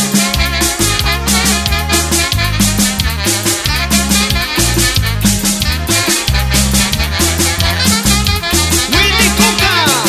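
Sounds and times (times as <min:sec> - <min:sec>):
bass line: 0:00.0 - 0:10.0
saxophone lead with vibrato: 0:00.0 - 0:10.0
steady drum beat: 0:00.0 - 0:10.0.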